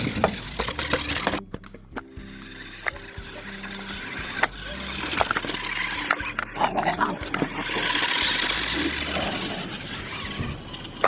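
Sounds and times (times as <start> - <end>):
animal-like growling: 0.0 - 11.0.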